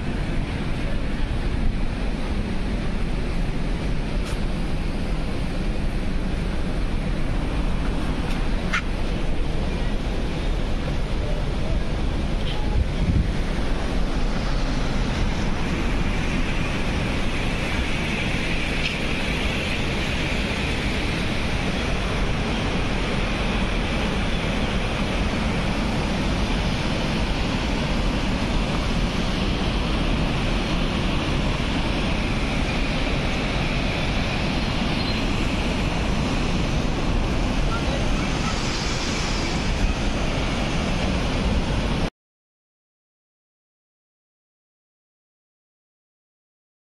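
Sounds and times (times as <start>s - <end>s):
waterfall roaring: 0.0s - 42.1s.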